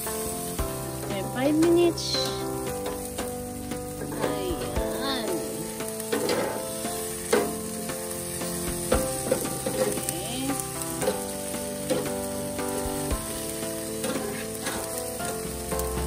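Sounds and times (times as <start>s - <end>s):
food sizzling on a grill: 0.0s - 16.0s.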